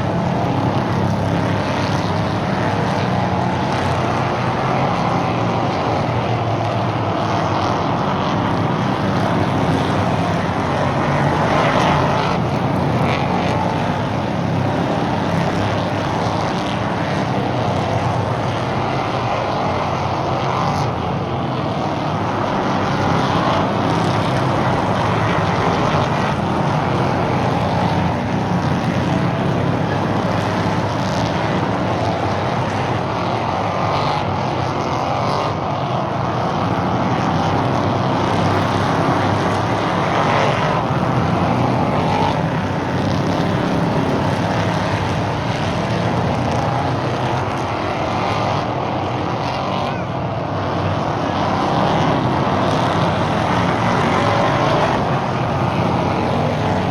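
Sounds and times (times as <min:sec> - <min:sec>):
stock car engines racing: 0:00.0 - 0:56.9.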